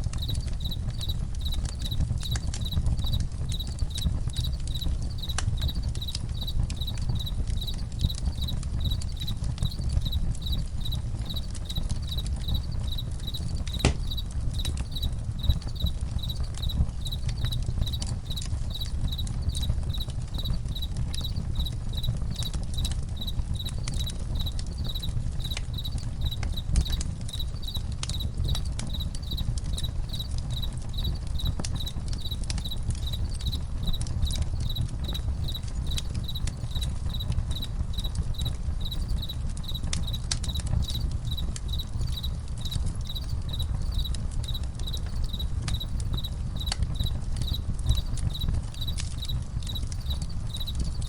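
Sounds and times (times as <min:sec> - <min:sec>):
campfire crackling and popping: 0:00.0 - 0:51.0
crickets chirping: 0:00.0 - 0:51.0.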